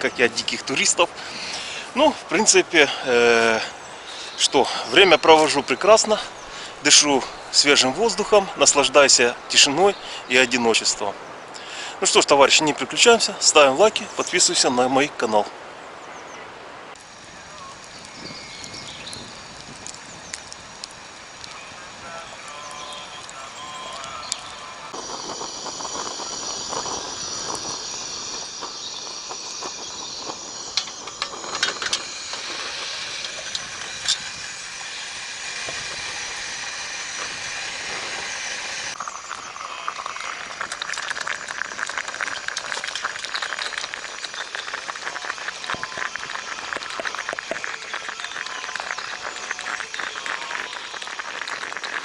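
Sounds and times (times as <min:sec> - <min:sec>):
campfire hissing and crackling: 0:00.0 - 0:52.0.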